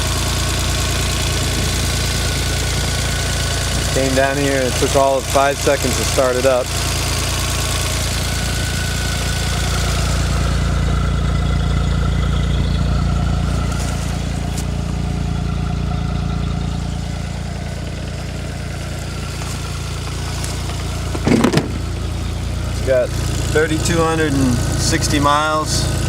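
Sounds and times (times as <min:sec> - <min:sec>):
snowmobile engine idling: 0:00.0 - 0:26.0.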